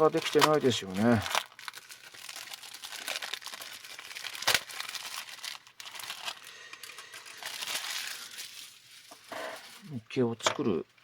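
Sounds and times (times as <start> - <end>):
plastic bags crinkling: 0.0 - 10.2.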